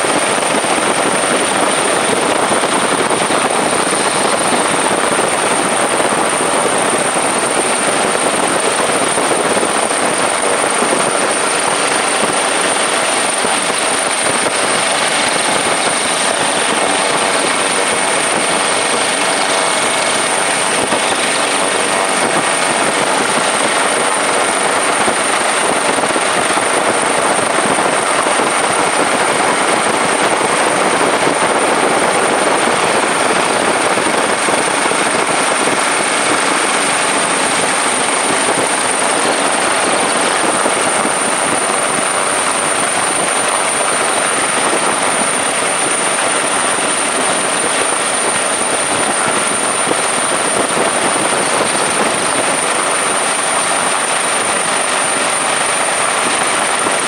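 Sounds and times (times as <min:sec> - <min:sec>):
helicopter turbine and rotor rush: 0:00.0 - 0:57.0
high whine: 0:00.0 - 0:57.0.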